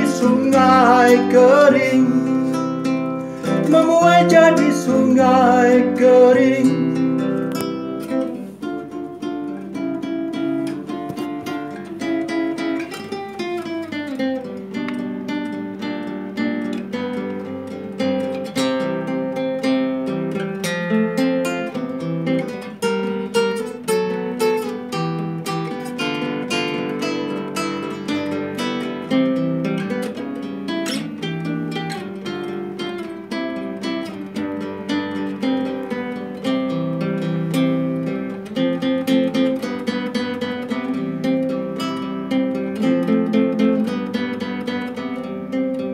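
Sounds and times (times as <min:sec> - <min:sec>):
classical guitar fingerpicking: 0:00.0 - 0:45.9.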